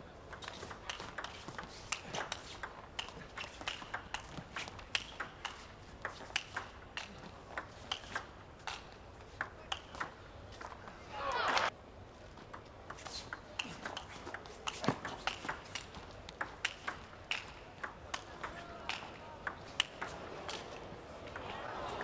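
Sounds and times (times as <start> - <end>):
table tennis ball clicking: 0.3 - 10.2, 12.5 - 20.7.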